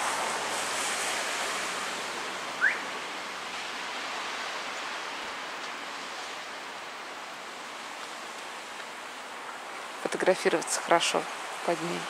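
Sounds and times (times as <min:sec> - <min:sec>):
distant road traffic hiss: 0:00.0 - 0:12.0.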